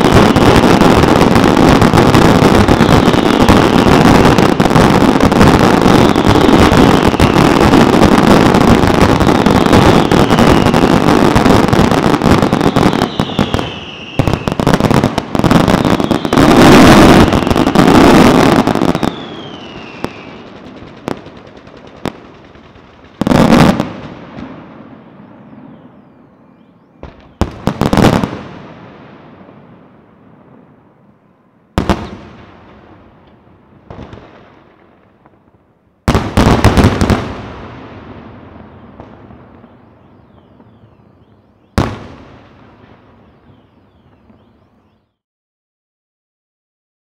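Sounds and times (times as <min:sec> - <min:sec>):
fireworks falling whistles: 0:00.0 - 0:28.7, 0:36.1 - 0:45.2
fireworks bangs and crackles: 0:00.0 - 0:45.1.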